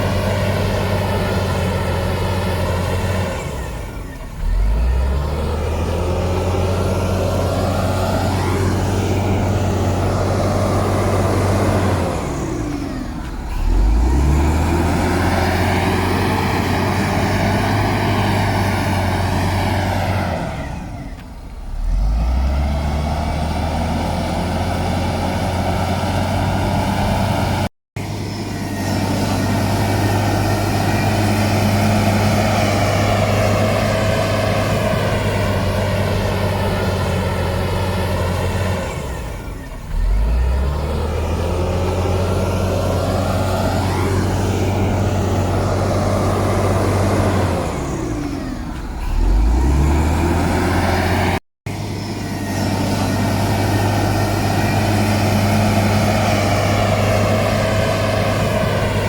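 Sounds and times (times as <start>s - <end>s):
heavy diesel engine revving: 0.0s - 59.0s.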